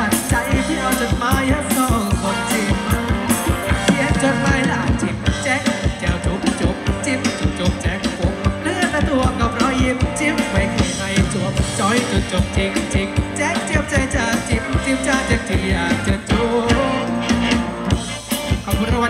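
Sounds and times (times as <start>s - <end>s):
person singing: 0.0s - 17.7s, 18.3s - 19.0s
bass: 0.0s - 19.0s
drum beat: 0.0s - 19.0s.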